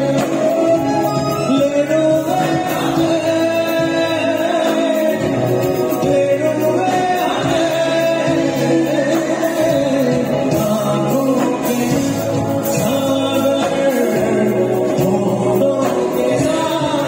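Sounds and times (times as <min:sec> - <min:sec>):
instrumental accompaniment: 0:00.0 - 0:17.0
man singing: 0:00.0 - 0:17.0.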